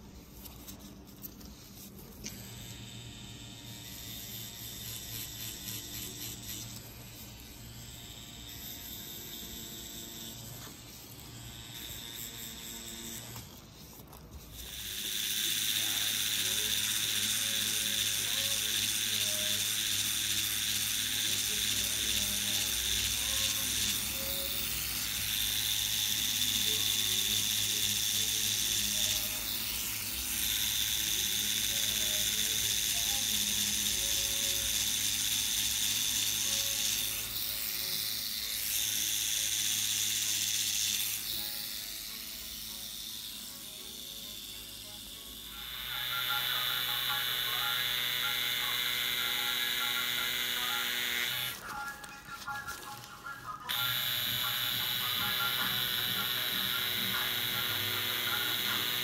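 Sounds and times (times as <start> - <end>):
tattoo machine buzzing: 0.0 - 53.0, 53.7 - 59.0.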